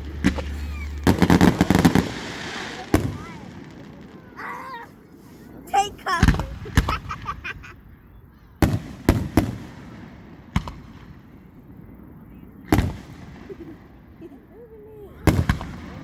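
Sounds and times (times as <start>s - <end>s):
fireworks bursting with rumble: 0.0s - 16.0s.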